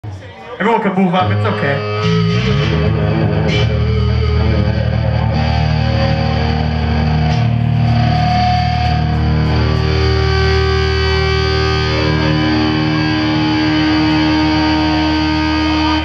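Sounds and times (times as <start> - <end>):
distorted electric guitar and bass: 1.2 - 16.0.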